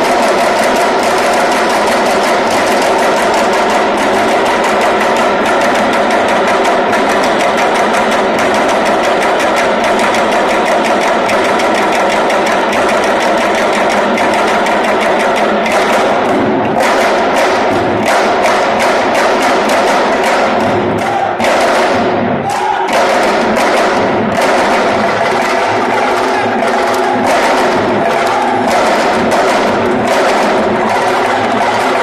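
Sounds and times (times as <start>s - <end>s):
fast dense drumming: 0.0s - 32.0s.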